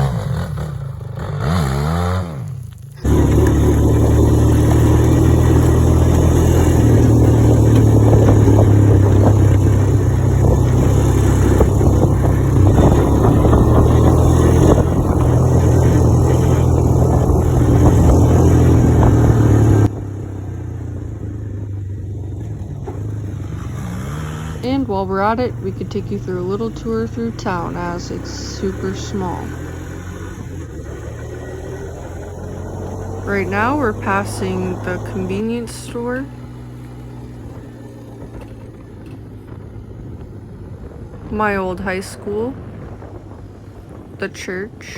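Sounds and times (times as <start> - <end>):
road and wind noise: 0.0 - 44.9
vehicle engine running: 0.0 - 44.9.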